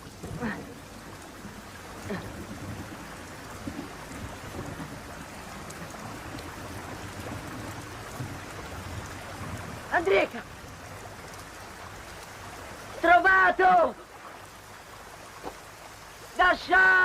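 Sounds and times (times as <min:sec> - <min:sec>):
rain falling steadily: 0:00.0 - 0:17.0.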